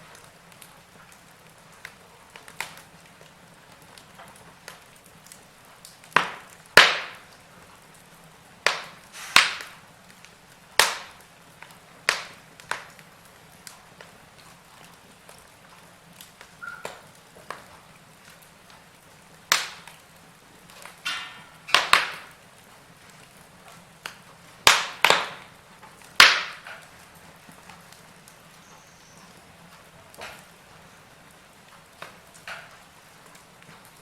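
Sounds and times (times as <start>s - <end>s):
faint steady hiss: 0.0s - 34.0s
log fire crackling: 0.0s - 34.0s.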